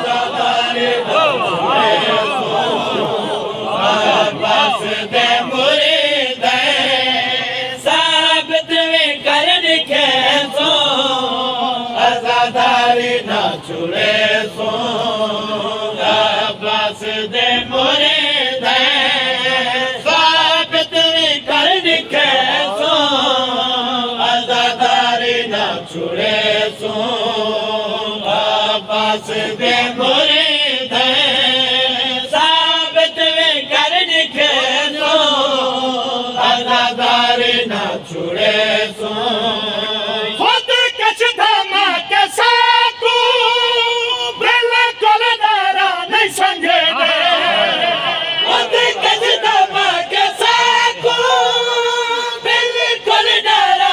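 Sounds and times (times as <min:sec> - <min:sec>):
men chanting a lament: 0:00.0 - 0:53.9.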